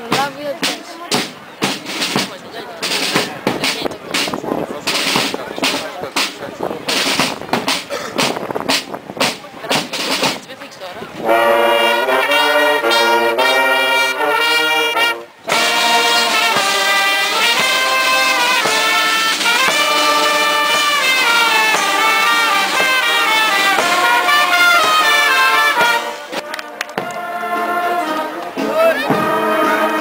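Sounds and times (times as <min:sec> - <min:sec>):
marching brass band: 0:00.0 - 0:30.0.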